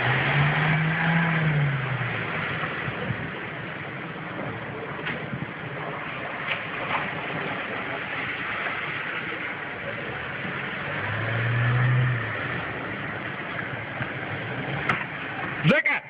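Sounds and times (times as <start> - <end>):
low engine drone: 0.0 - 15.7
car engine: 0.0 - 15.8.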